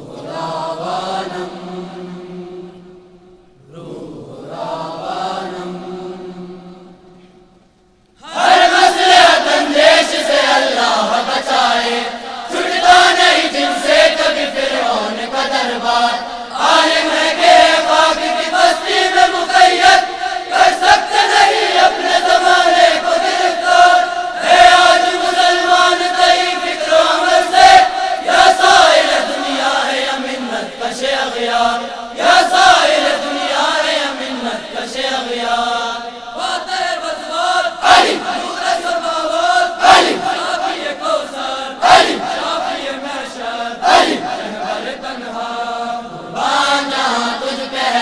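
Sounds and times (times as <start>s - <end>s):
male chorus chanting: 0.0s - 7.4s, 8.2s - 48.0s.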